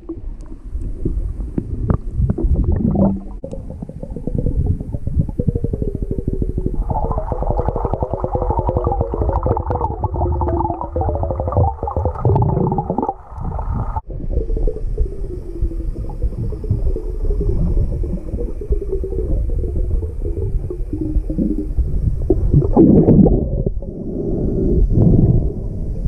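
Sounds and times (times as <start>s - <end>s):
muffled underwater gurgling: 0.0s - 26.0s.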